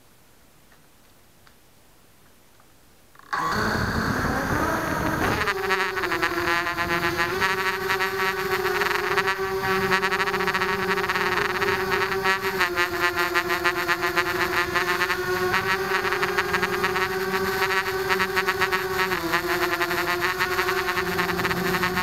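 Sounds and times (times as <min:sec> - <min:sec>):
quadcopter motors whining: 0:03.2 - 0:22.0.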